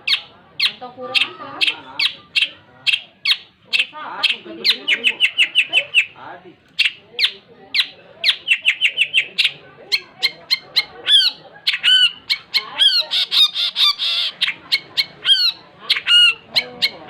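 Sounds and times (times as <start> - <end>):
harsh scratchy bird calls: 0.0 - 17.0.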